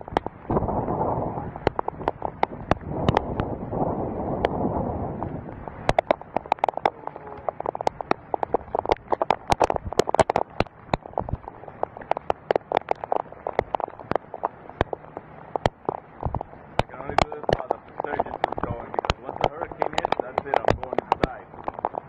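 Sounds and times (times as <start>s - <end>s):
rain striking a window: 0.0s - 4.6s, 5.2s - 22.0s.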